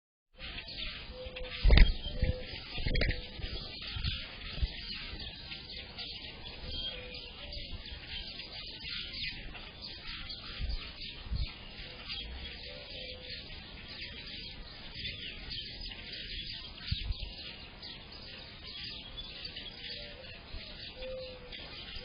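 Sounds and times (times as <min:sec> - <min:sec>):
songbirds chirping: 0:00.3 - 0:22.0
dove cooing: 0:00.4 - 0:17.2, 0:18.7 - 0:22.0.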